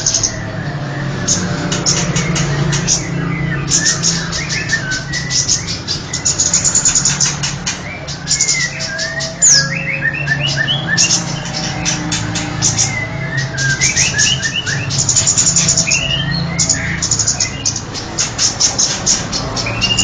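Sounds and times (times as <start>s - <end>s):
high sharp bird chirps: 0.0s - 20.0s
sliding whistled bird notes: 0.0s - 20.0s.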